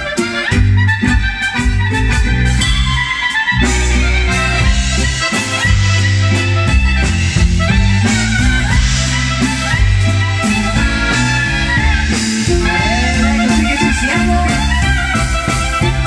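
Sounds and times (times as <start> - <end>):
accordion chords and bass: 0.0 - 16.0
clarinet melody: 0.0 - 16.0.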